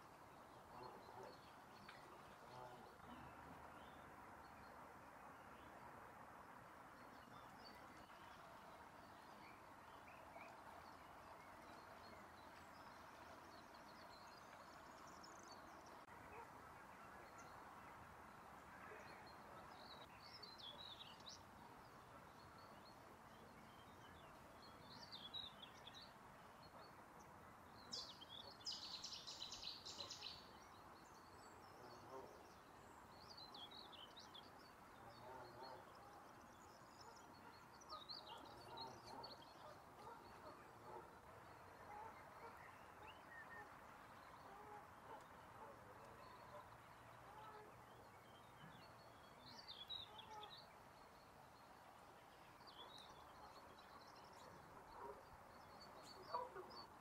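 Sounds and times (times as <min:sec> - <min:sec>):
low steady hiss: 0:00.0 - 0:57.0
songbird chirps and trills: 0:06.8 - 0:57.0.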